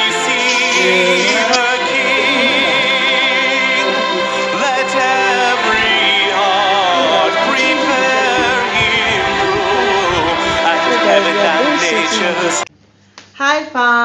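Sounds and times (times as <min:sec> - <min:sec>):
singing voice with wide vibrato: 0:00.0 - 0:12.7
steady musical accompaniment: 0:00.0 - 0:12.7.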